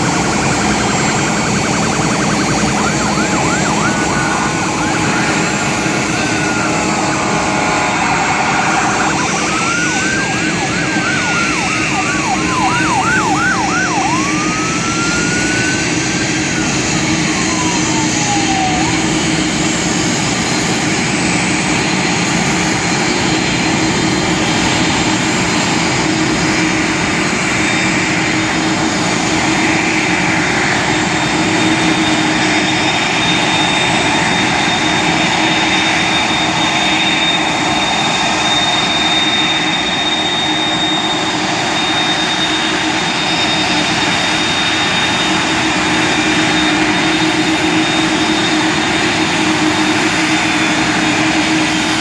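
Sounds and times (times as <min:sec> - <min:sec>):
high engine whine: 0:00.0 - 0:52.0
jet engines at taxi power: 0:00.0 - 0:52.0.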